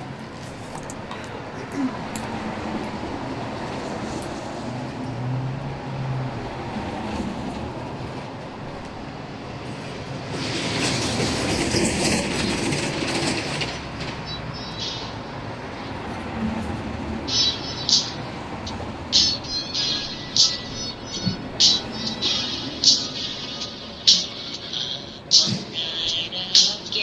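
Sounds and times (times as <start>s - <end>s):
subway train clattering on rails: 0.0s - 27.0s.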